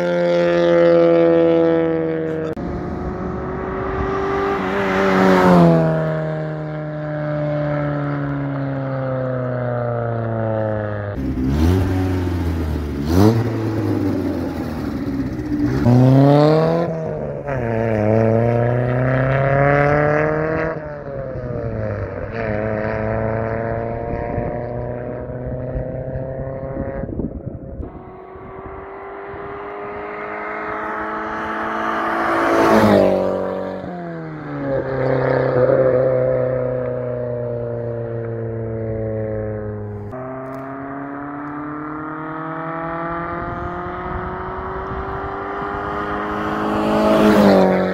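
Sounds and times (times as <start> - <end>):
car engine accelerating hard: 0.0 - 47.9.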